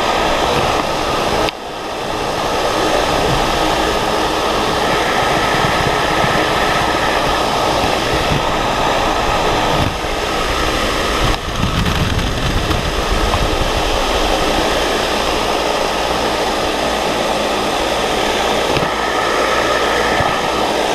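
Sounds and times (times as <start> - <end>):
faint steady whine: 0.0 - 20.9
large fan blowing air: 0.0 - 20.9
wind buffeting microphone: 0.0 - 20.9.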